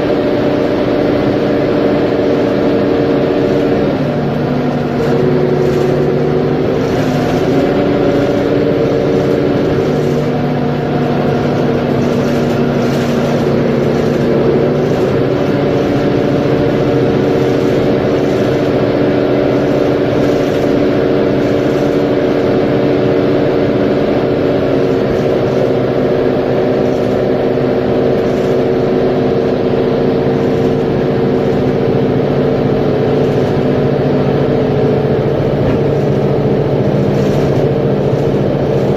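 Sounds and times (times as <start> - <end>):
bus diesel engine drone: 0.0 - 38.9.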